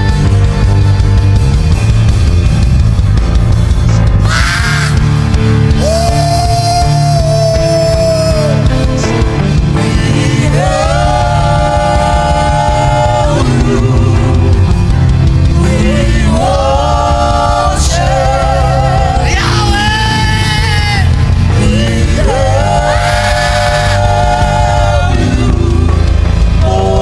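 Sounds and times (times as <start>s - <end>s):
instrumental backing: 0.0s - 27.0s.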